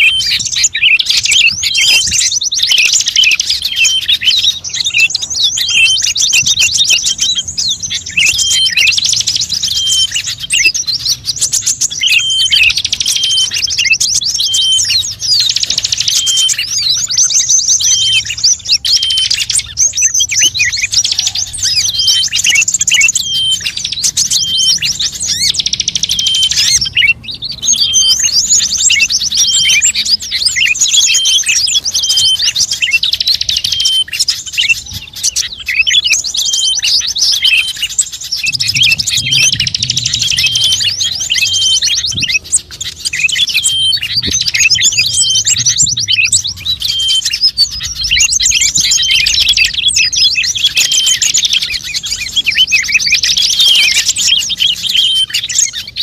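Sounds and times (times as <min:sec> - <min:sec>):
small songbirds chirping and twittering: 0:00.0 - 0:56.0.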